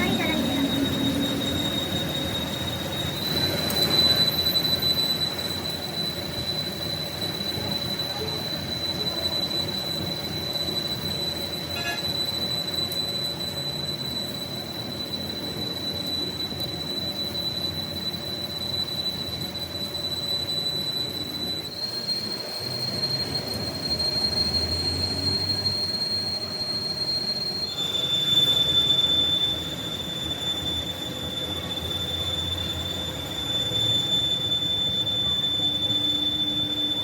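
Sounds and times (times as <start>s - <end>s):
lathe high-pitched whine: 0.0s - 37.0s.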